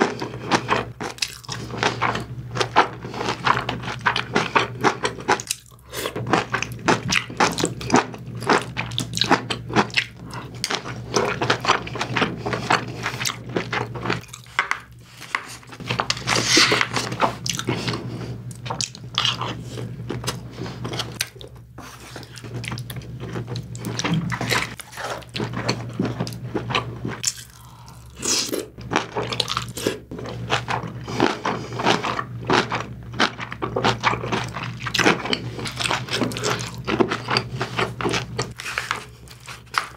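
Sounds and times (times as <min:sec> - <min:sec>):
low steady hum: 0:00.0 - 0:39.9
wet crunchy chewing: 0:00.0 - 0:39.9.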